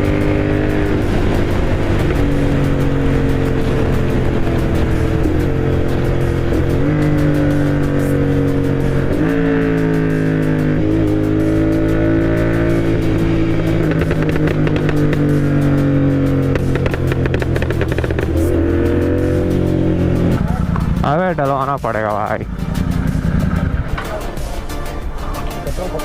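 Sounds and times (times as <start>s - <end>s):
exhaust crackles: 0.0s - 26.0s
motorcycle engine revving: 0.0s - 26.0s.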